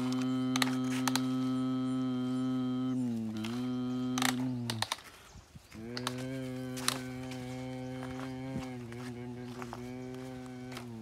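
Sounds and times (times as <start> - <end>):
plastic toys clicking on gravel: 0.0 - 1.6, 3.3 - 11.0
child humming a drone: 0.0 - 4.9, 5.8 - 11.0.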